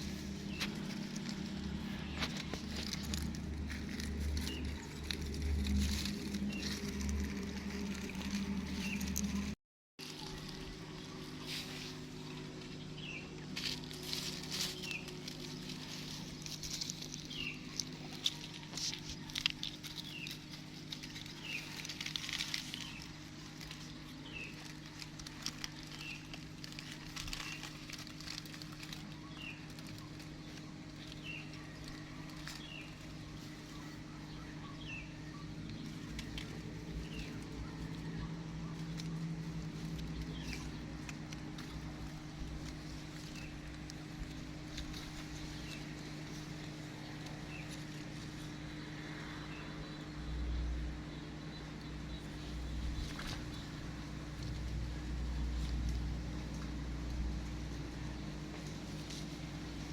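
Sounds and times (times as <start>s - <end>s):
rustling and tapping: 0.0s - 48.6s
steady low hum: 0.0s - 59.9s.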